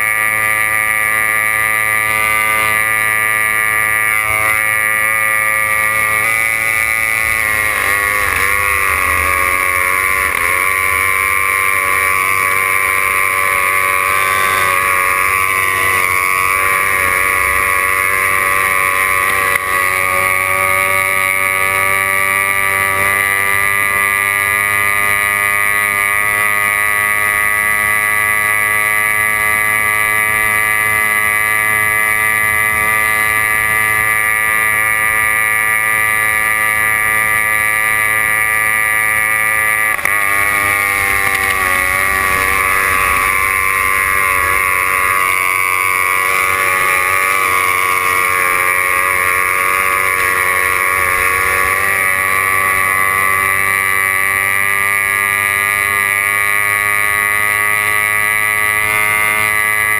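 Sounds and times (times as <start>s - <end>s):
boat engine at high revs: 0.0s - 59.9s.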